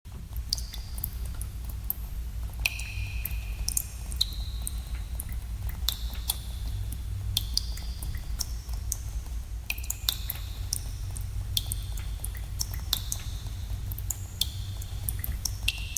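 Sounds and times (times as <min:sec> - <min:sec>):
steady low rumble: 0:00.1 - 0:15.9
water drops dripping: 0:00.3 - 0:15.9.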